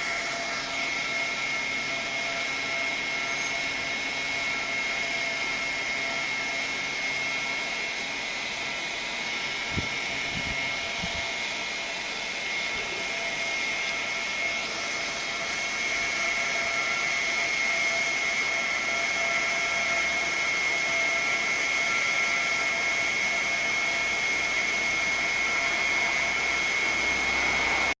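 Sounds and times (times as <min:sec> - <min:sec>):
electric fan running: 0:00.0 - 0:28.0.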